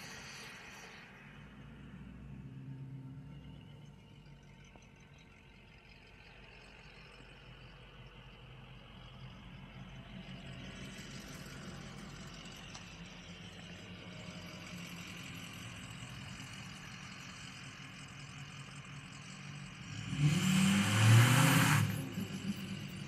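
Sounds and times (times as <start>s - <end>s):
diesel pickup engine rumbling: 0.0s - 23.0s.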